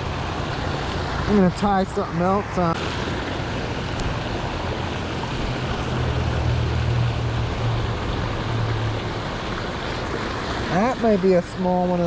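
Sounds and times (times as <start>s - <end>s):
fast-flowing creek rushing: 0.0s - 12.0s.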